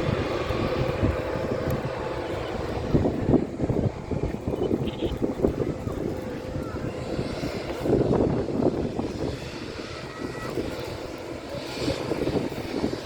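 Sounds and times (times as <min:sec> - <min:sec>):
airliner engine rumbling: 0:00.0 - 0:13.0
wind buffeting microphone: 0:00.0 - 0:13.0.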